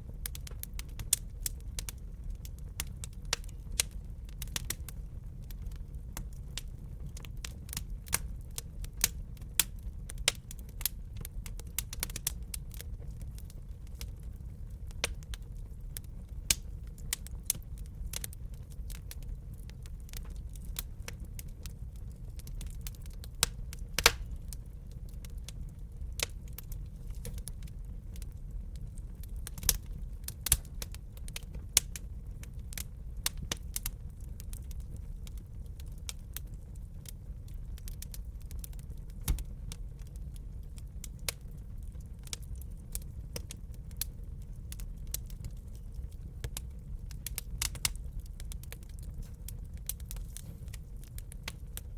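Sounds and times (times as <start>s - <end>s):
fire crackling and popping: 0.0s - 51.9s.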